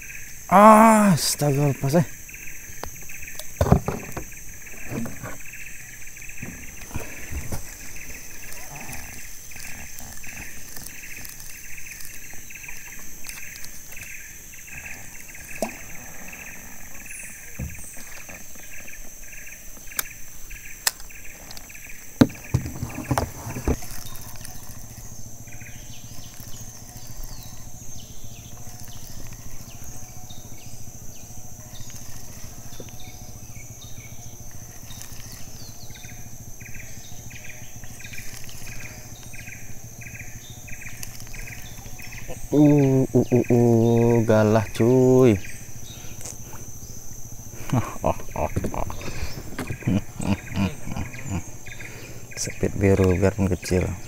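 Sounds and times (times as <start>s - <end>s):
insects chirping: 0.0s - 54.0s
low steady hum: 0.0s - 54.0s
steady high buzz: 0.0s - 54.0s.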